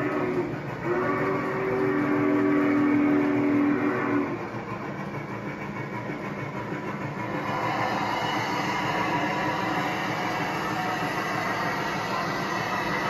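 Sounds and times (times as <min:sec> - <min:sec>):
model train wheels rumbling on rail: 0:00.0 - 0:13.0.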